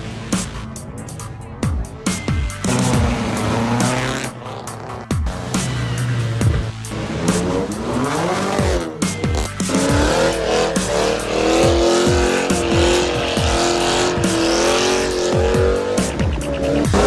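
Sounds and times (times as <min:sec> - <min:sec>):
deep bass music beats: 0:00.0 - 0:17.0
car tyres squealing: 0:00.3 - 0:17.0.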